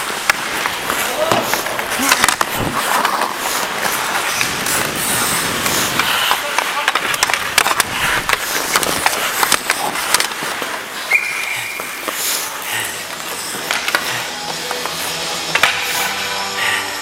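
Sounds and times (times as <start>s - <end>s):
hockey sticks clacking: 0.0s - 16.8s
skates scraping ice: 0.0s - 17.0s.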